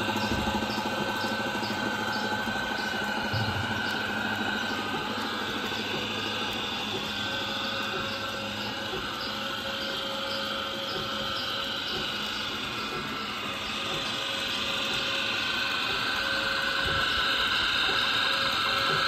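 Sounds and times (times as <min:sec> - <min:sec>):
light regular ticking: 0:00.0 - 0:17.2
belts turning pulleys: 0:00.0 - 0:19.0.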